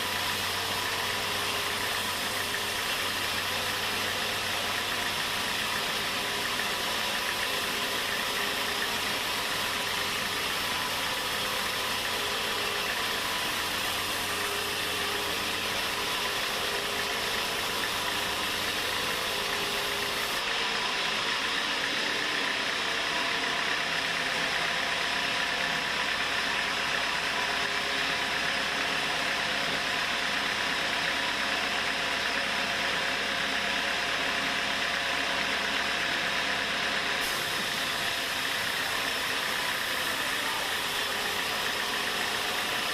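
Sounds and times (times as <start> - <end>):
sawmill machinery hissing: 0.0 - 42.9.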